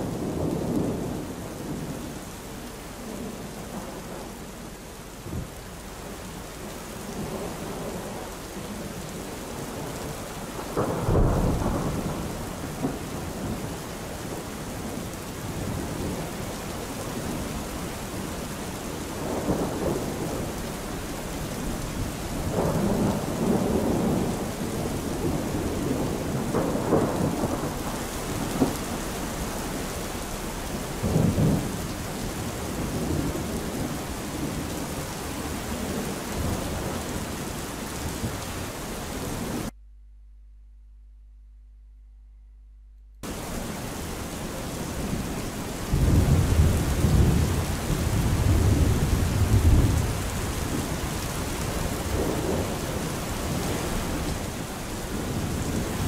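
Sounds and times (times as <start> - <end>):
rain hissing: 0.0 - 39.7, 43.2 - 56.0
thunder rolling: 7.1 - 39.7, 43.2 - 56.0.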